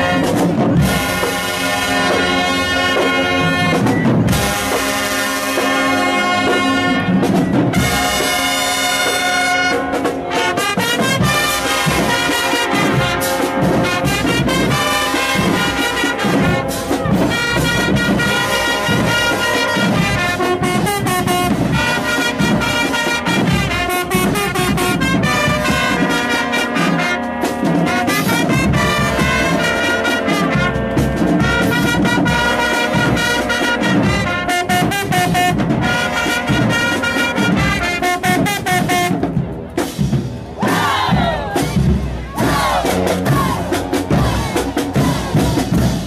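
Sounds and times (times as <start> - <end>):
horns sliding notes: 0.0 - 39.3
marching band playing: 0.0 - 46.0.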